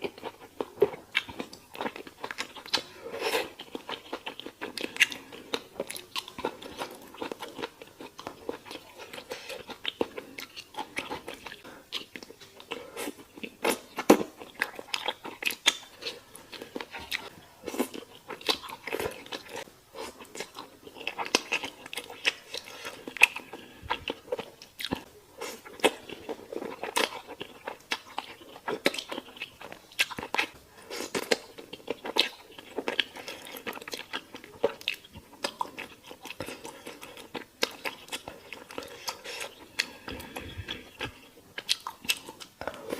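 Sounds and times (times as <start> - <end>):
wet chewing: 0.0 - 42.9.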